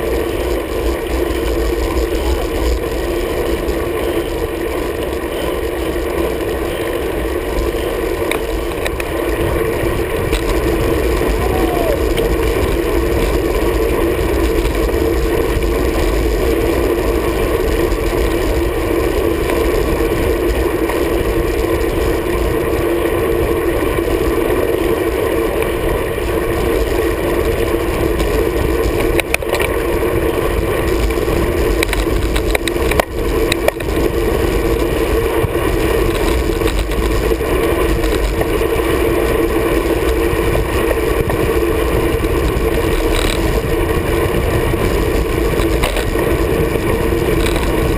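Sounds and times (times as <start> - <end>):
road rumble: 0.0 - 47.9
wind rush: 0.0 - 47.9.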